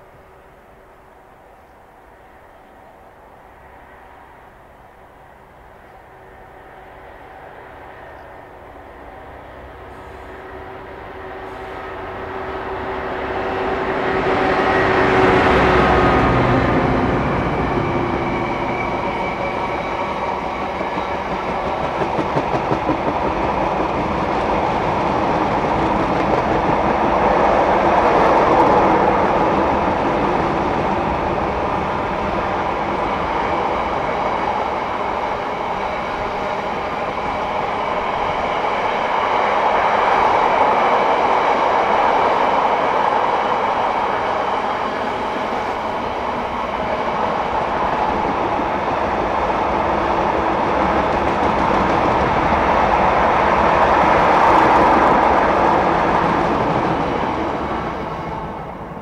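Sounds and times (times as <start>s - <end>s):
diesel locomotive engine passing: 0.0s - 59.0s.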